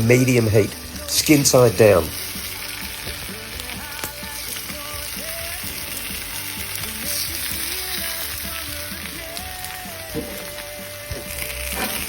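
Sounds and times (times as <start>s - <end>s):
fish sizzling on a grill: 0.0s - 12.0s.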